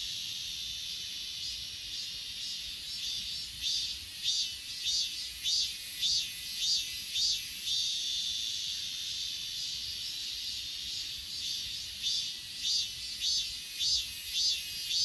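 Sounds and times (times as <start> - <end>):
crickets trilling: 0.0 - 15.0
insect chirps: 0.0 - 15.0.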